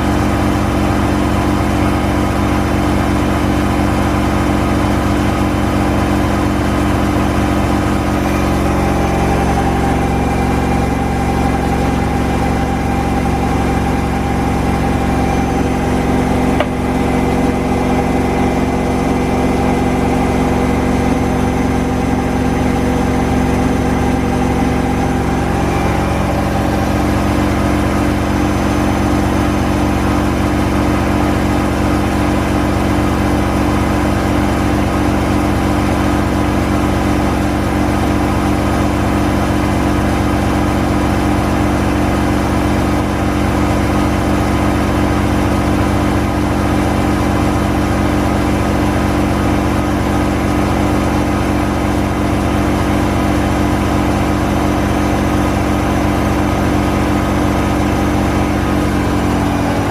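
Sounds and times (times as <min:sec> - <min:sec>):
washing machine motor hum: 0:00.0 - 0:59.9.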